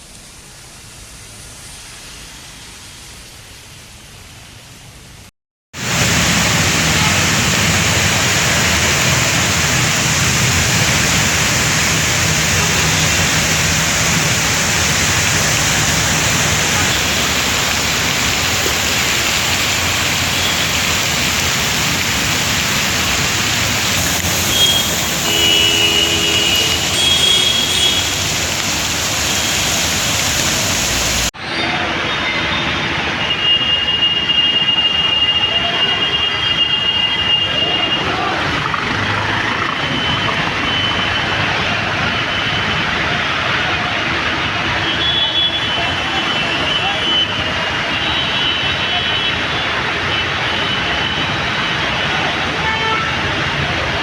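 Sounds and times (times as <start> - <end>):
heavy rain falling: 0.0 - 32.0, 32.8 - 54.0
traffic on a wet road: 0.0 - 54.0.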